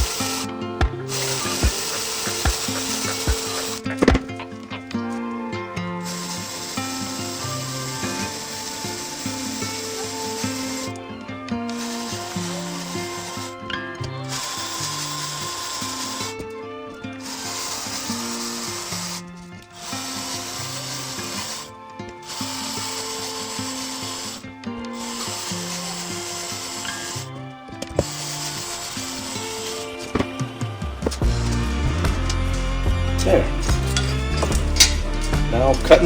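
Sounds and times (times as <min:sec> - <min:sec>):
background music of held notes: 0:00.0 - 0:36.0
power tool on sheet metal: 0:00.0 - 0:36.0.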